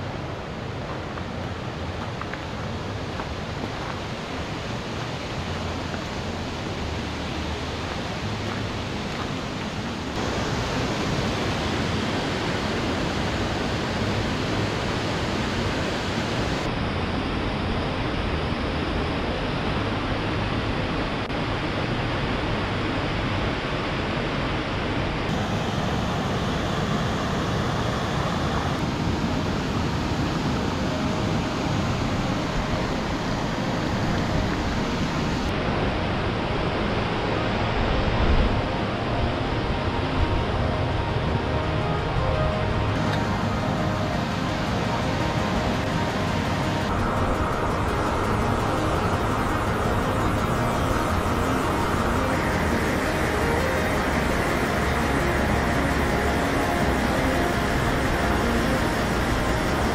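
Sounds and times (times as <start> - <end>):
river water: 0.0 - 59.9
waterfall rushing: 0.0 - 59.9.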